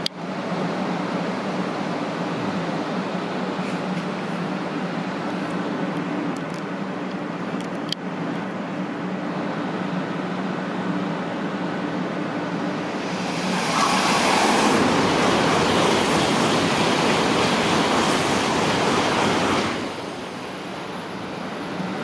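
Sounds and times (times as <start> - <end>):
train passing at high speed: 0.0 - 7.4, 8.1 - 22.0.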